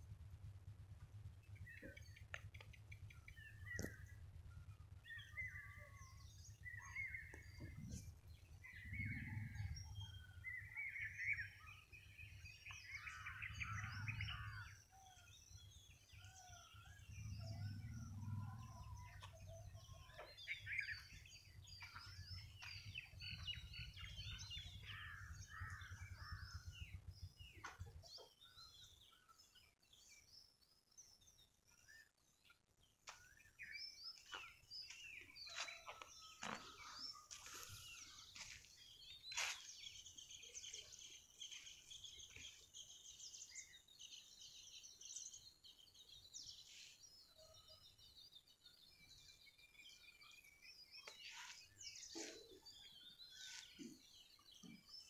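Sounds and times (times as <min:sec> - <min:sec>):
birds chirping and calling: 0:01.4 - 0:04.2, 0:05.0 - 0:55.0.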